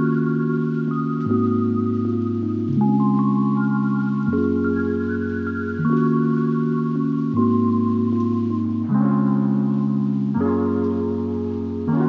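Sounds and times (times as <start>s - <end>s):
soft sustained background chords: 0.0s - 12.0s.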